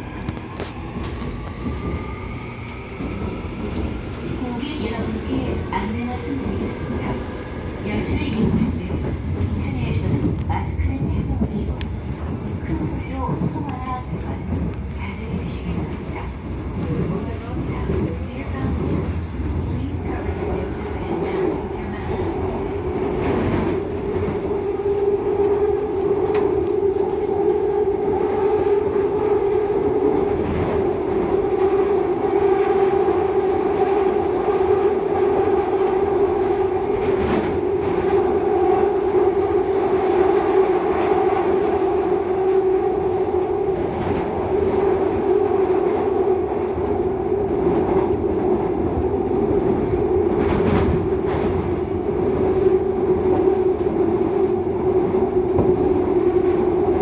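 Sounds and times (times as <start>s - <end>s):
train rumbling hum: 0.0s - 57.0s.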